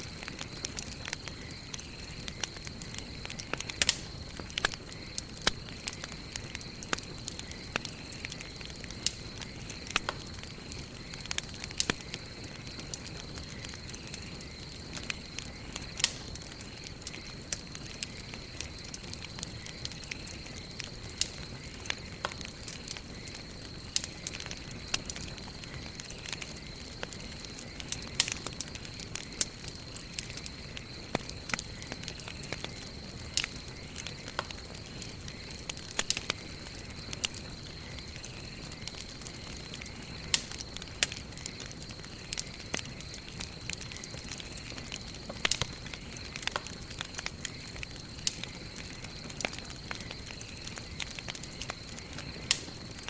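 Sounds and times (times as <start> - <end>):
fire crackling and popping: 0.0 - 53.0
low hiss of flames: 0.0 - 53.0.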